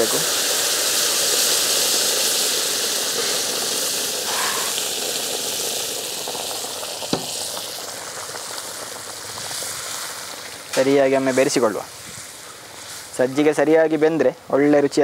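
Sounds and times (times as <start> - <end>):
water sizzling on hot semolina: 0.0 - 15.0.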